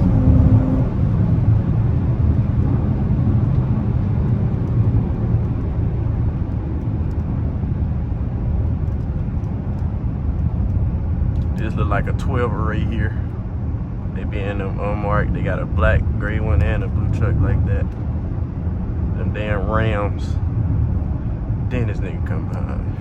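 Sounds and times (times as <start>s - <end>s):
engine and road rumble: 0.0s - 23.0s.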